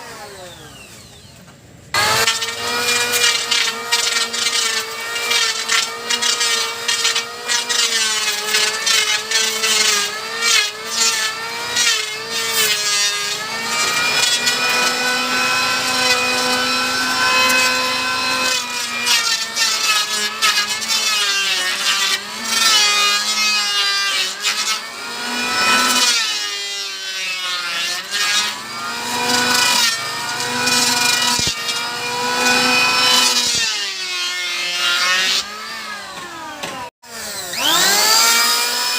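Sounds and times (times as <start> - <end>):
electric wood planer shaving wood: 0.0 - 38.9.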